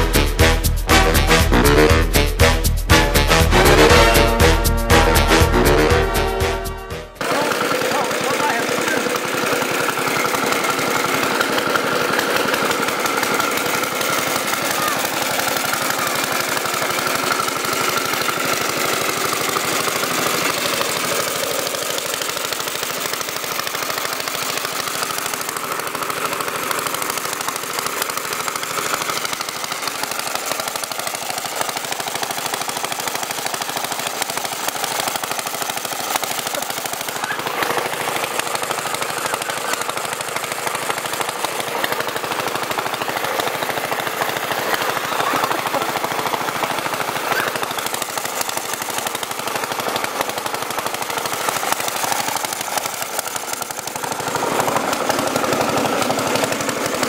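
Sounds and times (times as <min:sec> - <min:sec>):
single-cylinder engine popping: 0:07.2 - 0:57.0.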